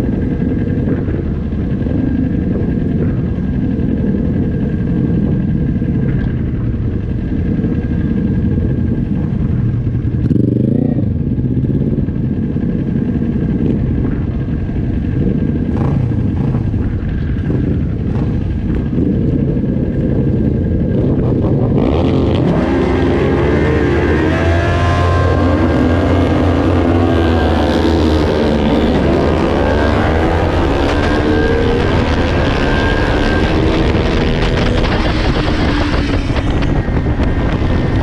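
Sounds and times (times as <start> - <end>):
motorcycle engine revving: 0.0 - 38.0
motorcycles idling: 0.0 - 38.0.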